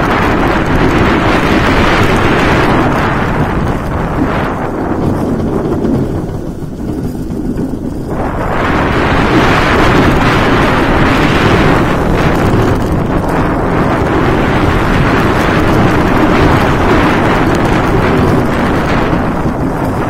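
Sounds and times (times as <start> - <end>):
roller coaster train roaring on track: 0.0 - 20.0
wind rushing over microphone: 0.0 - 20.0.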